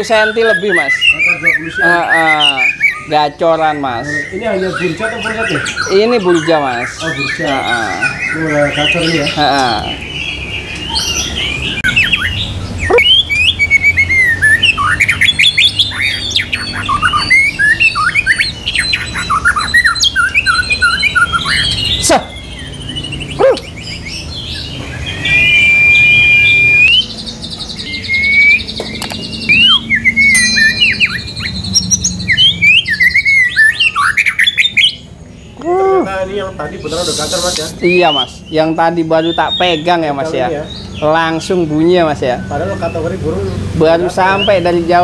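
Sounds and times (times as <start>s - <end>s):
songbird whistling and chirping: 0.0s - 43.2s, 44.2s - 45.0s.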